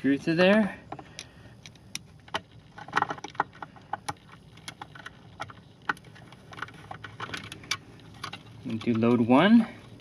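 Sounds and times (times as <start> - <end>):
small clicks and metallic ticks: 0.4 - 10.0.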